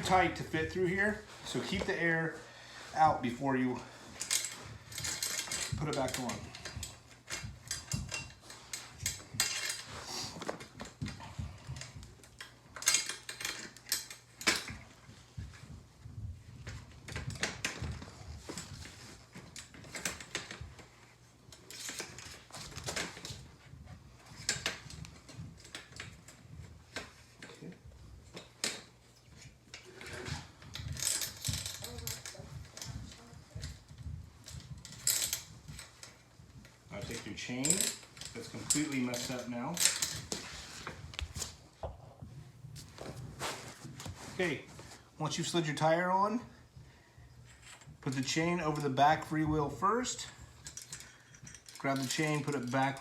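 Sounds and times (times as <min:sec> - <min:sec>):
bike wheel and chain rattling: 0:00.0 - 0:41.6, 0:47.4 - 0:53.0.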